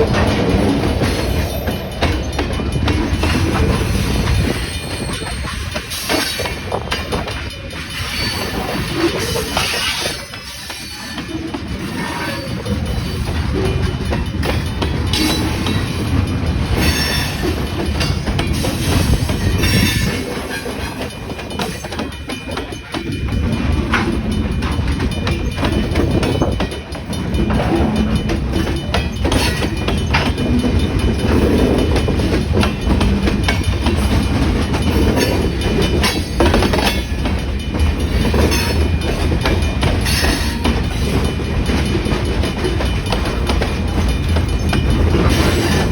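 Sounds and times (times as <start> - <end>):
freight train rumbling past: 0.0 - 45.9
wheels clicking over rail joints: 0.0 - 45.9.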